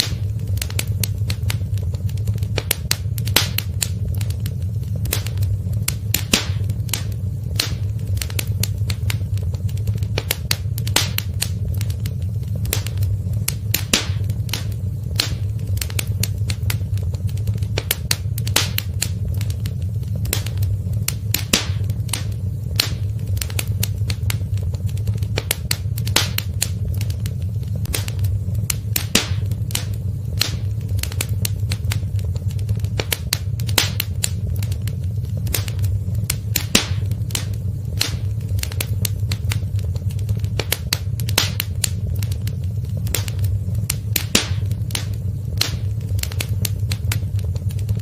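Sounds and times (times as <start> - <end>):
low fire rumble: 0.0 - 48.0
wood fire crackling: 0.0 - 48.0.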